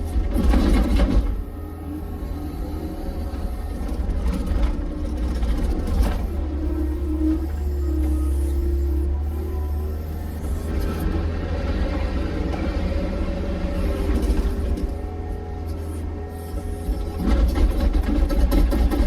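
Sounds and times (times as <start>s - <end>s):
vehicle low rumble: 0.0s - 19.0s.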